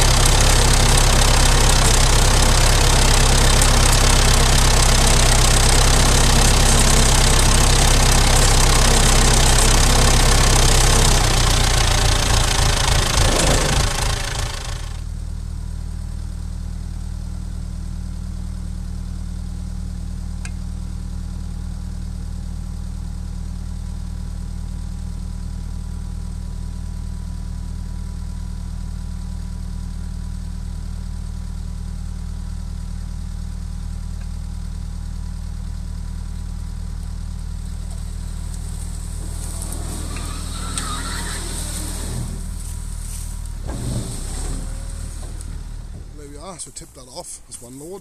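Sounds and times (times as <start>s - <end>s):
tractor diesel engine running: 0.0s - 17.4s, 26.0s - 48.0s.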